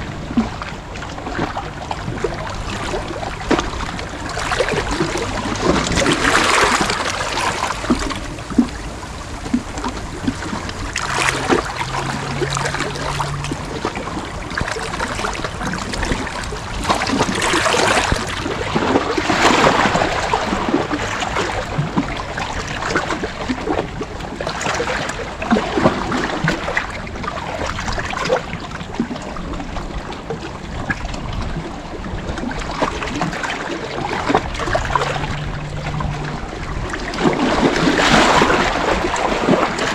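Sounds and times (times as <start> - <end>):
sea water lapping at shore: 0.0 - 39.9.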